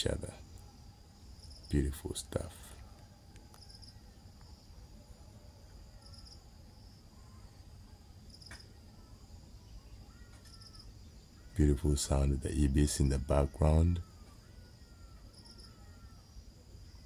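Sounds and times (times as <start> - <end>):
crickets chirping: 0.0 - 17.0
faint bird calls: 0.0 - 17.0.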